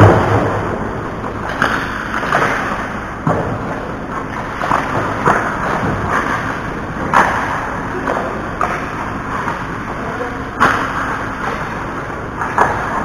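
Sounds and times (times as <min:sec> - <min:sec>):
sharp knocks of sticks and puck: 0:00.0 - 0:09.7, 0:10.6 - 0:13.0.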